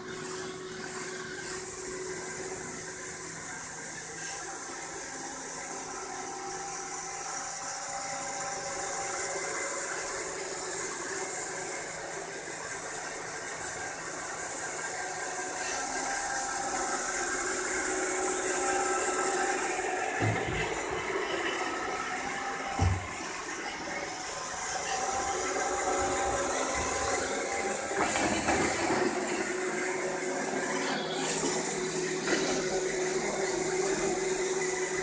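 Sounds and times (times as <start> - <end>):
robot vacuum motor whine: 0.0 - 35.0.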